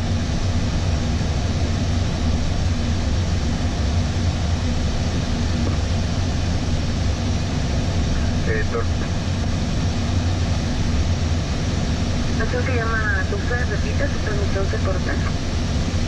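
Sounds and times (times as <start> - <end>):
low even hum: 0.0 - 16.0.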